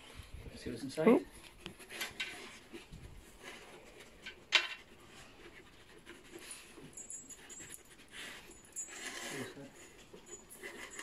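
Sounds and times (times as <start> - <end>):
dogs sniffing and breathing: 0.0 - 11.0.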